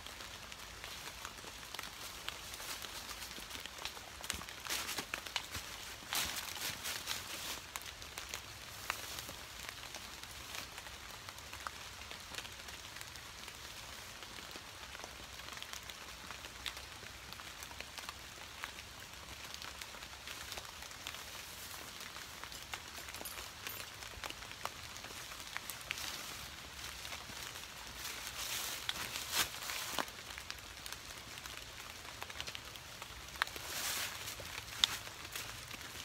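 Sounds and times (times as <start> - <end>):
rain on leaves and a tarp: 0.0 - 36.0.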